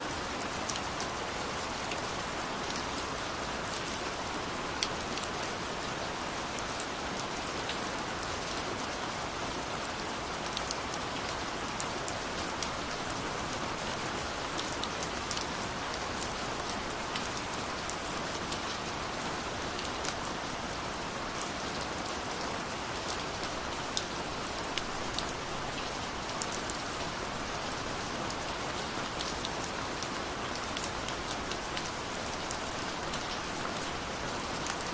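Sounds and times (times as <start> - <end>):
raindrops pattering on a surface: 0.0 - 34.9
steady rain hiss: 0.0 - 34.9.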